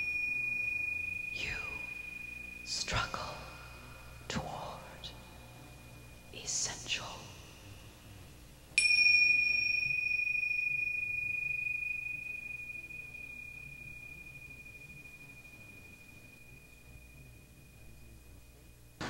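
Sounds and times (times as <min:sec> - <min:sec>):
small bell ringing: 0:00.0 - 0:06.4, 0:08.8 - 0:18.7.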